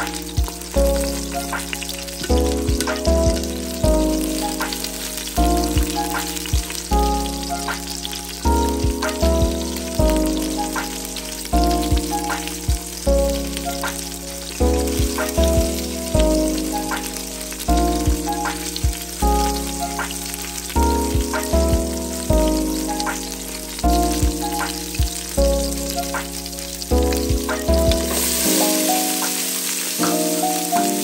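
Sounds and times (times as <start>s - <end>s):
background music with sustained chords: 0.0s - 31.0s
sausages sizzling: 0.0s - 31.0s.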